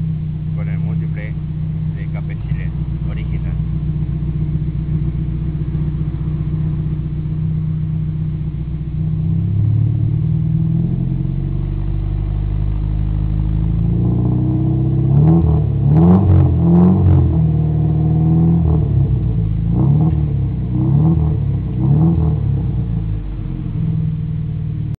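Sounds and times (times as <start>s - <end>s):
car engine idling: 0.0s - 25.0s
car engine revving: 0.0s - 25.0s.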